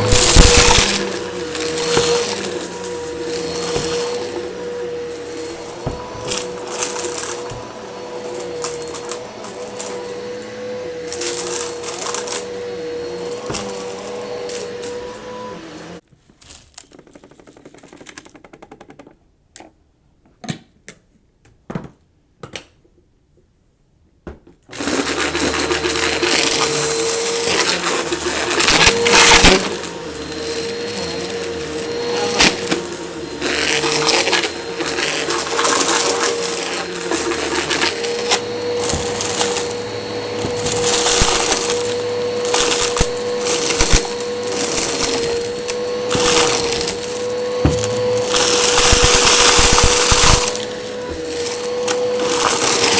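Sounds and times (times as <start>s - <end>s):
debris crunching in vacuum: 0.0s - 16.0s, 24.8s - 52.9s
vacuum cleaner whine: 0.0s - 16.0s, 24.7s - 52.9s.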